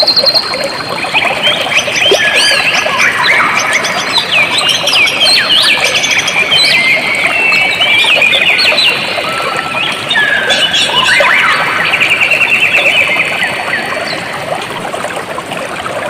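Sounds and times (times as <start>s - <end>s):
water rushing: 0.0s - 16.0s
birds chirping: 1.0s - 14.4s.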